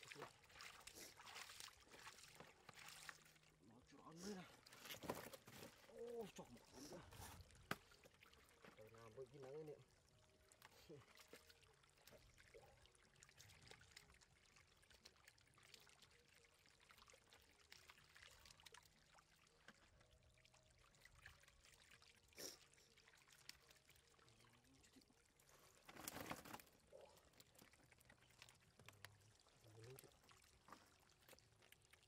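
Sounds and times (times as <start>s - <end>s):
trickle of water: 0.0s - 32.0s.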